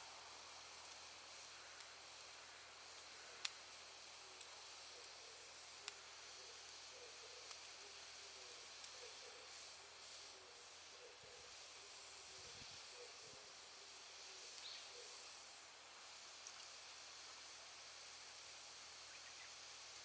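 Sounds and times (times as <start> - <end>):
faint fire pops: 0.0 - 10.8, 11.5 - 20.0
bonfire hissing softly: 0.0 - 20.0.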